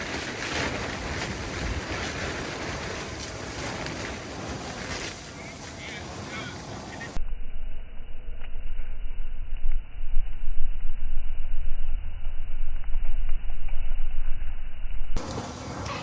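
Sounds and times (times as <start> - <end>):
muffled uneven low rumble: 0.0 - 16.0.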